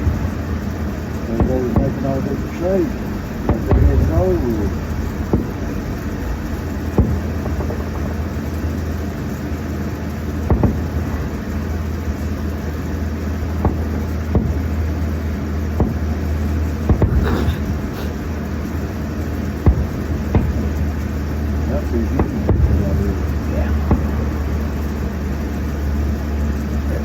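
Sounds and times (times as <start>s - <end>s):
distant fireworks popping: 0.0s - 27.0s
low rumble: 0.0s - 27.0s.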